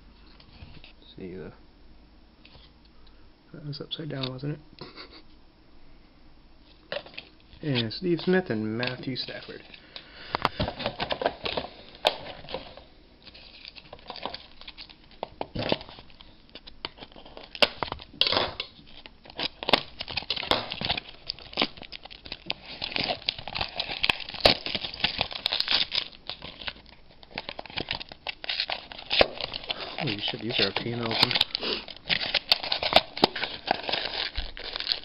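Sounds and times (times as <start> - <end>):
plastic wrapping crinkling and tearing: 6.9 - 35.0.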